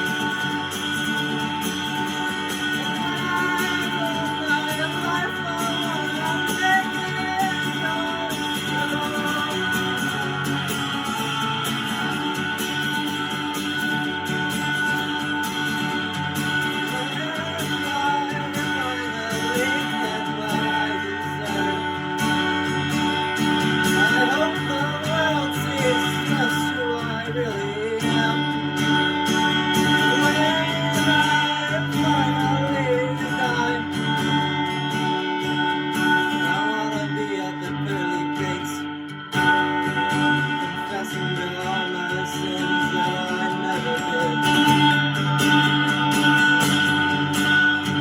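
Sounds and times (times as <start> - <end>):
guitar: 0.0 - 48.0.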